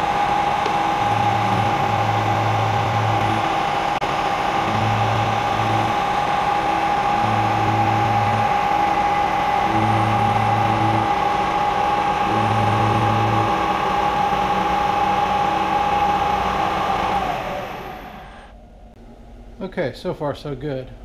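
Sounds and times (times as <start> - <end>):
end mill cutting metal: 0.0 - 18.5
low drone: 0.0 - 19.5
steady mill whine: 0.0 - 21.0.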